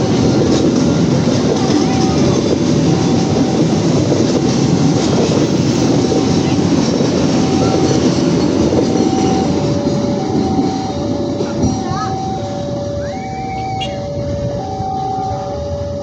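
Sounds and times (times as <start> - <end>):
train rumbling past: 0.0 - 16.0
two-tone warning signal: 0.0 - 16.0.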